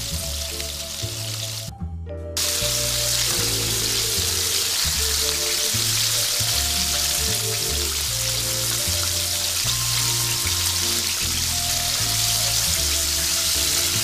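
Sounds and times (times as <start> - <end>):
food sizzling in hot oil: 0.0 - 1.7, 2.4 - 14.0
background music: 0.0 - 14.0.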